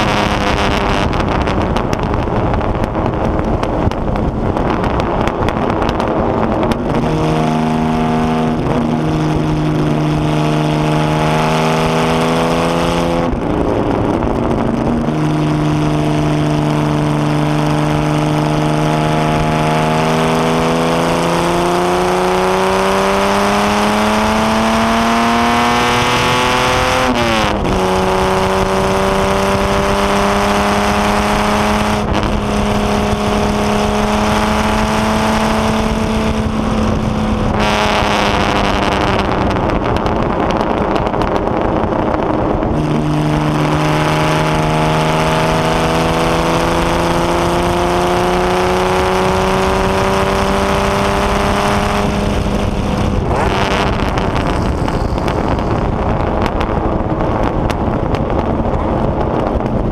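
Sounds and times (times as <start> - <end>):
racing engine accelerating: 0.0 - 59.9
wind rush: 0.0 - 59.9.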